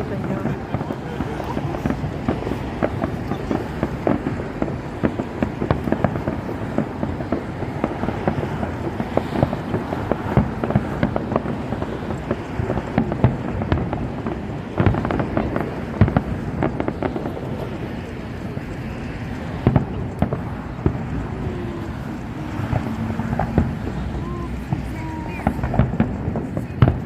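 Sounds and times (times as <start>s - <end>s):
fireworks bangs: 0.0s - 27.0s
fireworks crackling and popping: 0.0s - 27.0s.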